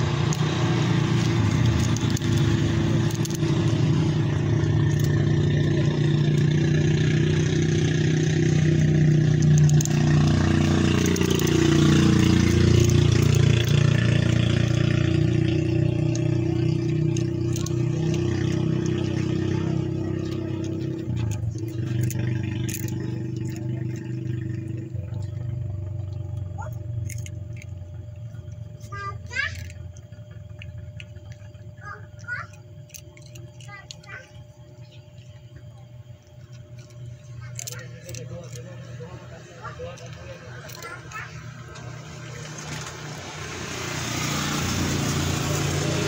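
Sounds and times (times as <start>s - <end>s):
engine running: 0.0s - 46.0s.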